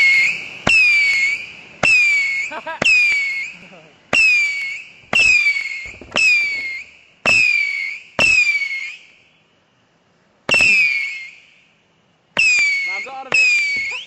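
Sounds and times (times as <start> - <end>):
firework cracks with falling whistles: 0.0 - 9.4, 10.5 - 14.0.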